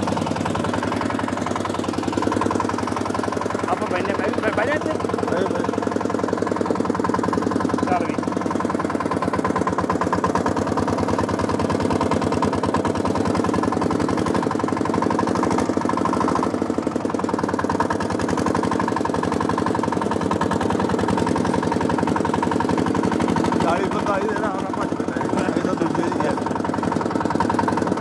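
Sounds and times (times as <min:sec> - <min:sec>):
small tractor engine running: 0:00.0 - 0:28.0.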